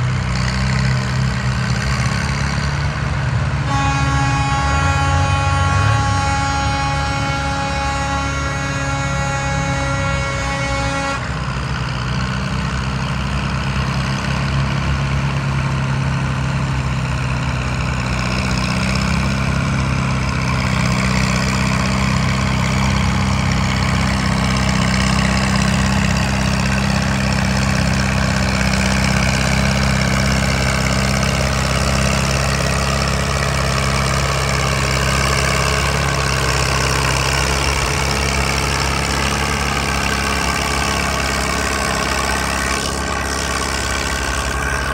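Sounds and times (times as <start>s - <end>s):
tractor engine running under load: 0.0s - 44.9s.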